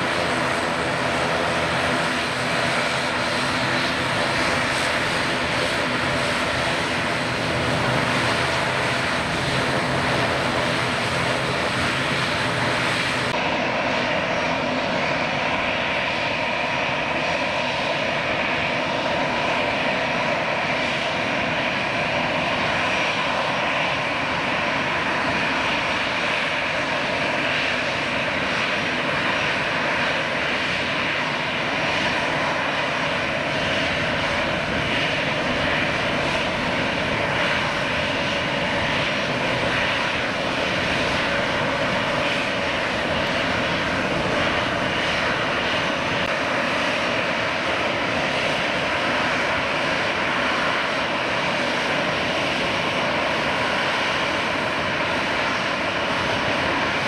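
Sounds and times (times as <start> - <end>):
jet engines humming with whine: 0.0 - 57.0
turboprop engines droning: 0.0 - 57.0.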